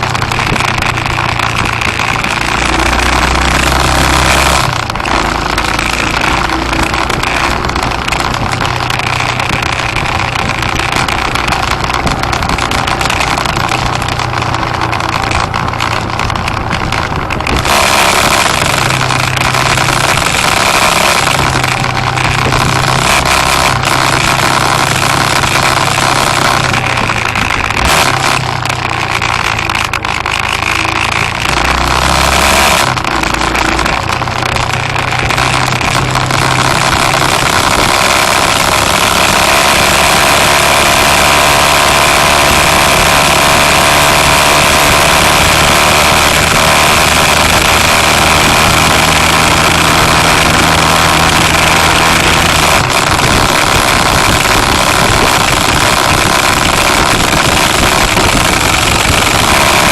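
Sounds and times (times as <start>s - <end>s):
road and wind noise: 0.0s - 59.9s
vehicle engine running: 0.0s - 59.9s.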